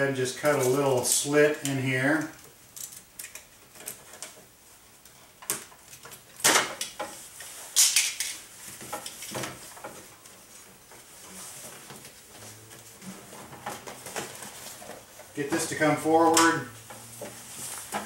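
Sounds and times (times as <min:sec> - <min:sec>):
plastic rustles and clicks: 0:00.4 - 0:18.0.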